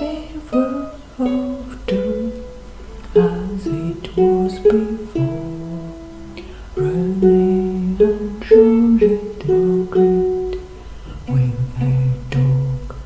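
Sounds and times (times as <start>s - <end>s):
ukulele chords: 0.0s - 13.0s
wordless vocal: 0.0s - 13.0s.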